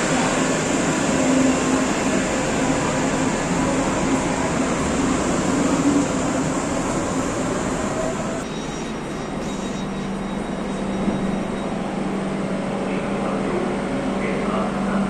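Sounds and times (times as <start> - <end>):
standing train humming: 0.0 - 15.0
train rolling on rails: 0.0 - 15.0.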